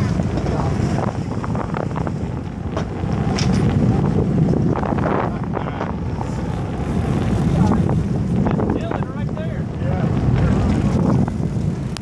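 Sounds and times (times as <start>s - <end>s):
boat engine rumble: 0.0s - 12.0s
wind buffeting microphone: 0.0s - 12.0s.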